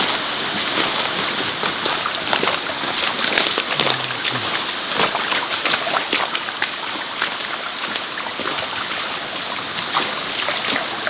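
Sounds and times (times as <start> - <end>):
falling water pattering: 0.0 - 11.0.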